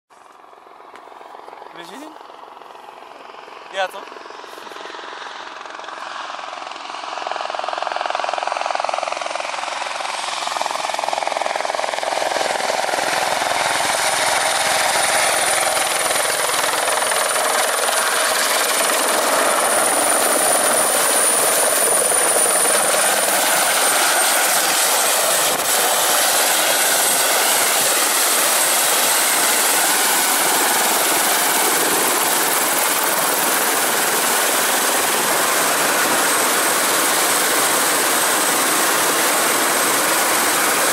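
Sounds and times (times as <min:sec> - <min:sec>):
helicopter rotor and engine: 0:00.2 - 0:40.9.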